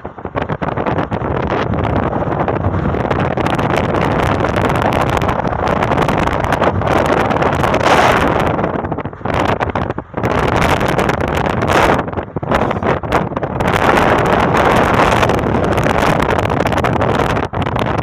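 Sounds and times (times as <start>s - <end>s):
moving vehicle rumble: 0.0s - 18.0s
wind buffeting microphone: 0.0s - 18.0s.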